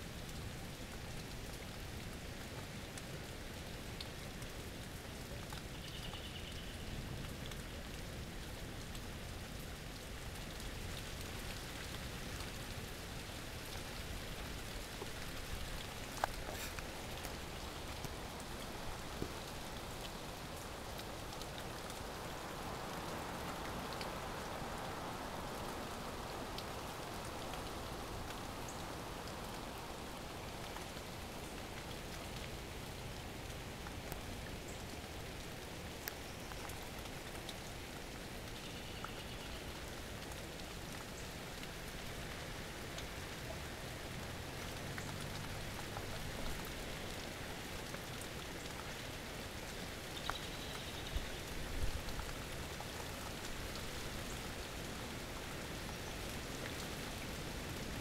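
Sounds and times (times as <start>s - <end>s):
rain hissing: 6.9s - 58.0s.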